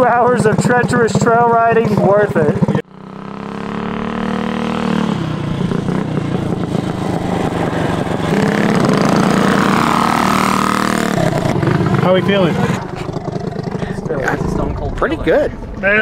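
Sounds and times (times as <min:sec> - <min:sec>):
minibike engine revving: 0:00.0 - 0:16.0.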